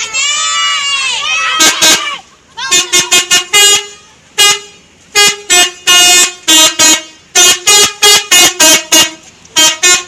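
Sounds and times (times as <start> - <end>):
multi-tone musical horn blasts: 1.5 - 10.0.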